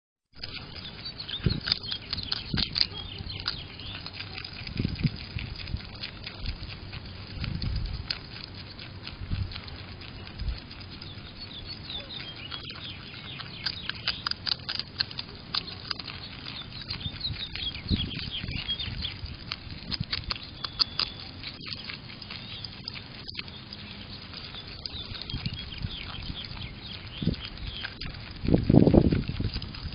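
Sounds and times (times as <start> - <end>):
beaver chewing crunching clicks: 0.4 - 29.9.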